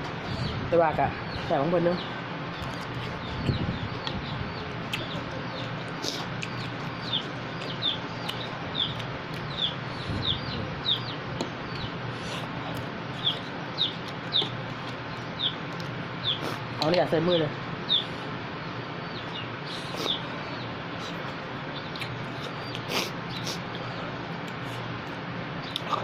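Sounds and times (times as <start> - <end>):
chicks peeping: 1.3 - 24.7.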